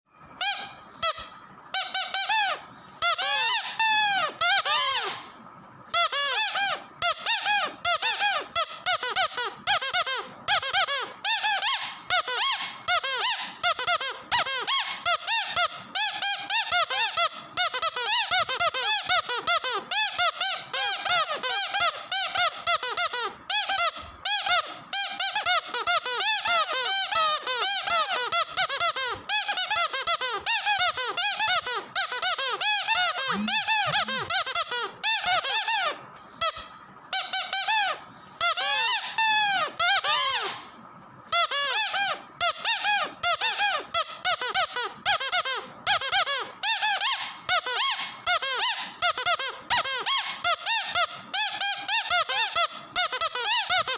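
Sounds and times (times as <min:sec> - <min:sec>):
squeaky dog toy squeaking: 0:00.3 - 0:53.9.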